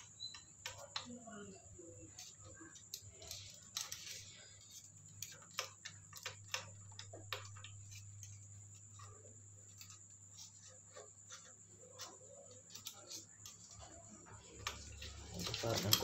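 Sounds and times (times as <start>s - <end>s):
screwdriver clicking and scraping metal: 0.0s - 1.1s, 2.1s - 13.9s, 14.6s - 16.0s.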